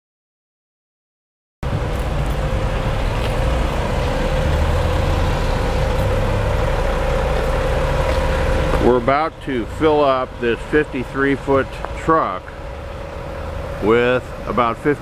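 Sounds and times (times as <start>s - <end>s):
diesel truck engine idling: 1.6s - 15.0s
steady engine whine: 1.6s - 15.0s.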